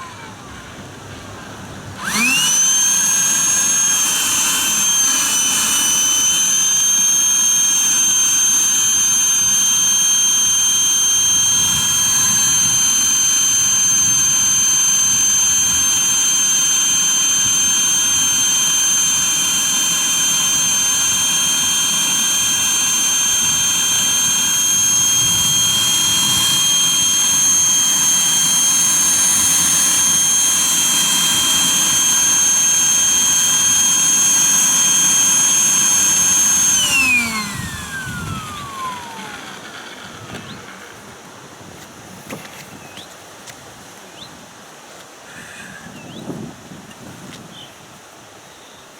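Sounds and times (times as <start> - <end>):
small motor whining: 1.5 - 43.2.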